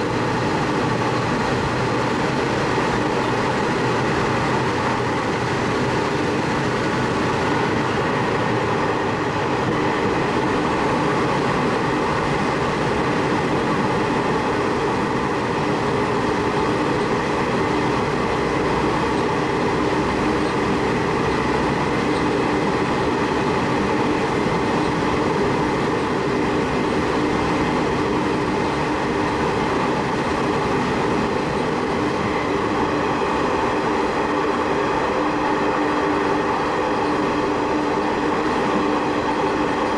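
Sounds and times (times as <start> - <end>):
railcar engine and wheels drone: 0.0 - 39.9.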